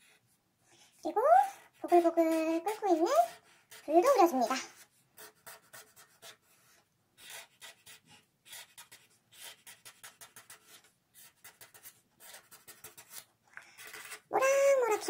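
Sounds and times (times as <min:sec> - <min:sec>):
marker pen drawing on paper: 0:01.0 - 0:15.0.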